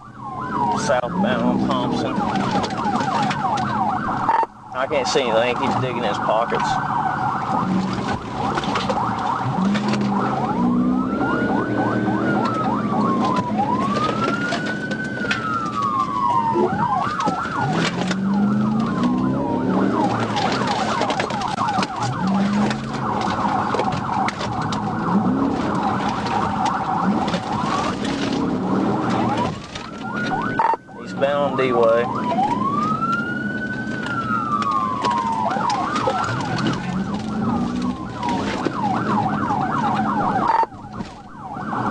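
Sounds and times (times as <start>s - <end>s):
police sirens wailing and yelping: 0.0s - 41.9s.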